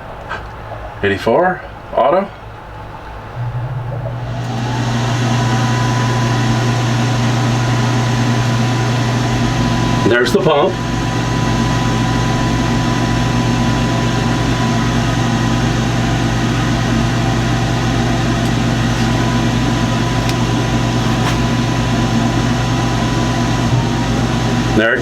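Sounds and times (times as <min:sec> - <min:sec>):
water pump humming with faint whine: 0:03.0 - 0:25.0.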